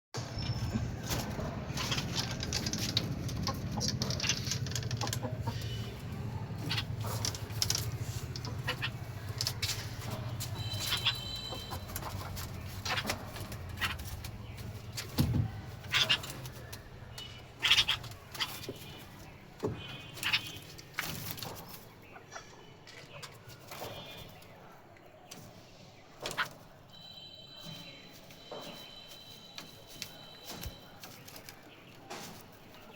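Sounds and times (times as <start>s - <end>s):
small birds chirping: 0.2s - 32.9s
chickens clucking: 0.4s - 26.9s, 28.2s - 32.9s.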